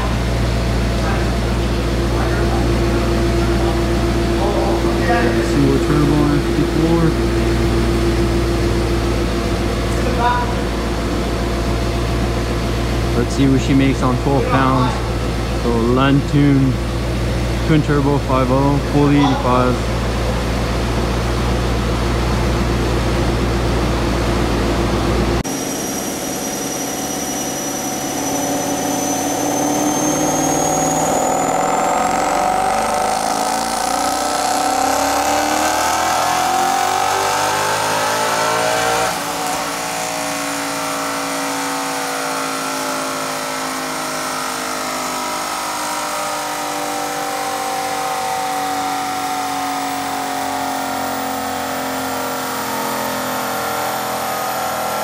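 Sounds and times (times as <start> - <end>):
car engine revving: 0.0 - 55.0
turbo whine: 0.0 - 55.0.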